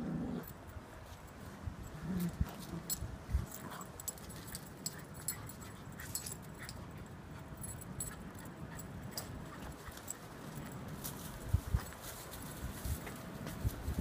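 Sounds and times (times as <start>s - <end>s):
claws clicking and tags jingling: 0.4s - 13.2s.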